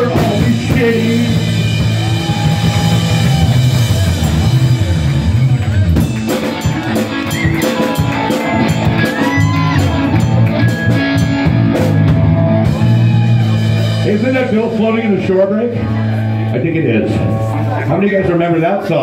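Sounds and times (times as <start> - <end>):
drum kit: 0.0 - 16.4
distorted electric guitar: 0.0 - 18.3
electric bass: 0.0 - 19.0.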